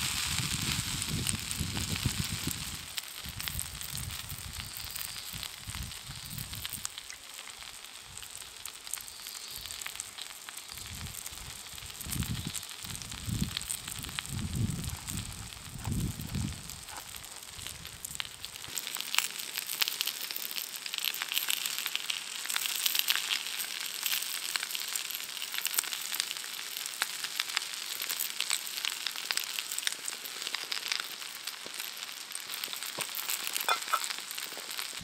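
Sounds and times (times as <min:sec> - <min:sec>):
noodles sizzling in a frying pan: 0:00.0 - 0:35.0.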